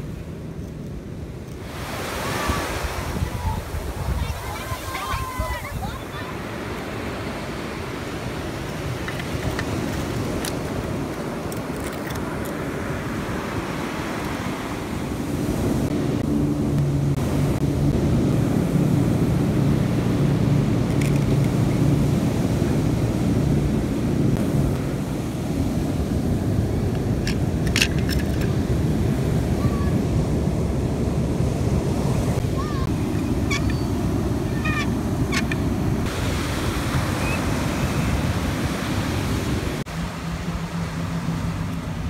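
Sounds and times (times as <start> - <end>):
surf rumbling: 0.0 - 42.0
wind on microphone: 0.0 - 42.0.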